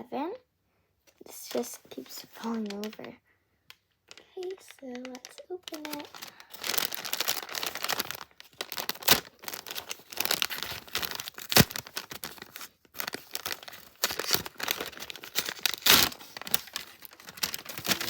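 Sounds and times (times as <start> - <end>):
packaging crinkling: 1.5 - 3.1, 4.0 - 18.0
packaging ripping: 2.4 - 3.0, 4.1 - 18.0.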